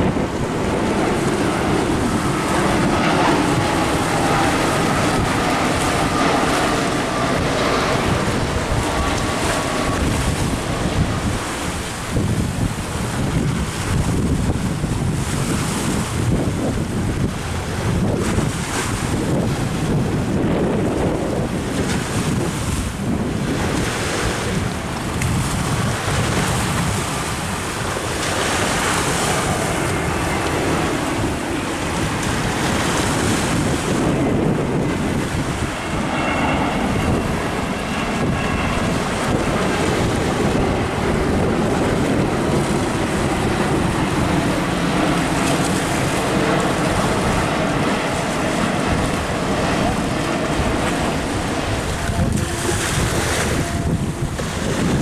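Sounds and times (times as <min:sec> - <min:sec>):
jet engines: 0:00.0 - 0:55.0
wind buffeting microphone: 0:00.0 - 0:55.0.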